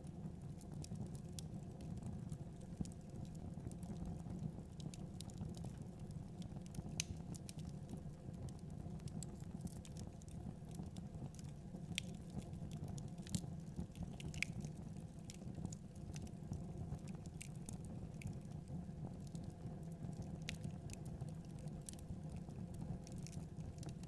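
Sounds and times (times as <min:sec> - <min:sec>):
low rumble of flames: 0:00.0 - 0:24.0
wood fire crackling and popping: 0:00.1 - 0:24.0.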